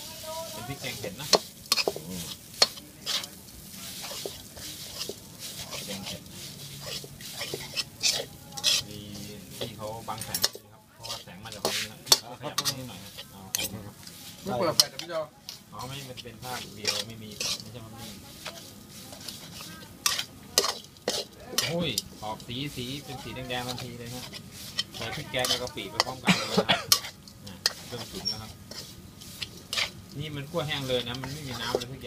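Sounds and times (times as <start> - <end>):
light sizzle: 0.0 - 32.0
metal spatula scraping a wok: 0.0 - 32.0.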